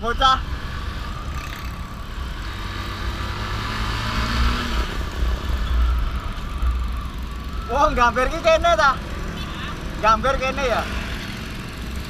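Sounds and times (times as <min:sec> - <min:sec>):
wind and road noise: 0:00.0 - 0:12.0
motorcycle engine running: 0:00.8 - 0:03.8, 0:04.4 - 0:12.0.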